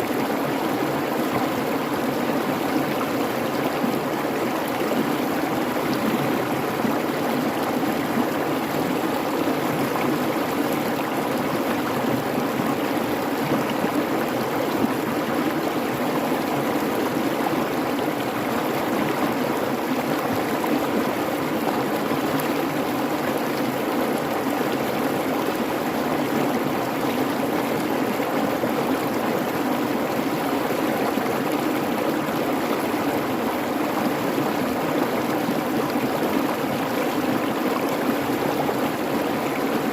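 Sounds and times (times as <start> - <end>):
creek flowing: 0.0 - 39.9.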